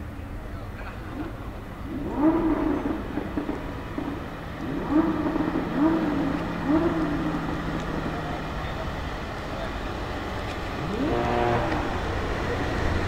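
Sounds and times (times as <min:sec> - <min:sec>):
car engine throttle blips: 0:00.9 - 0:13.0.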